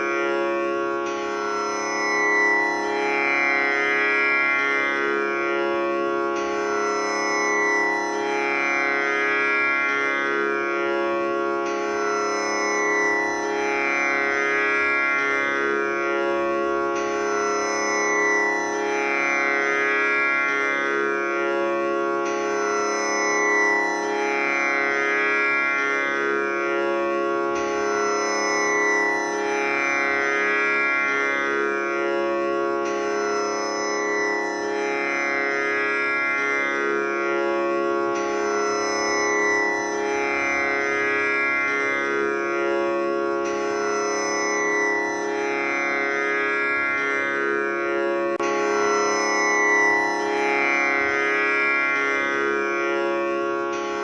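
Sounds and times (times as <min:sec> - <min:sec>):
tanpura drone: 0:00.0 - 0:54.0.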